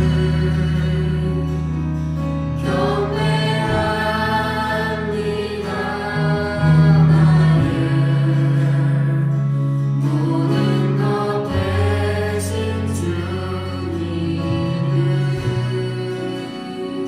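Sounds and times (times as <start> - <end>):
bass line: 0.0 - 17.0
sustained chords: 0.0 - 17.0
voices singing worship song: 0.0 - 17.0.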